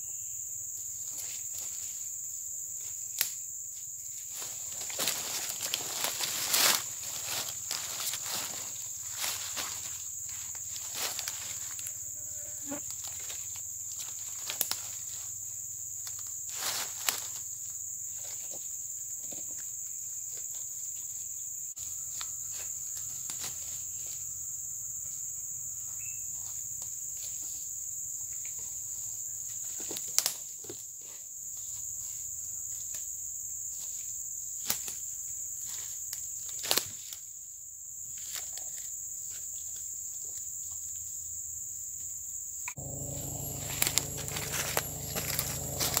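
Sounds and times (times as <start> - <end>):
insects droning: 0.0 - 46.0.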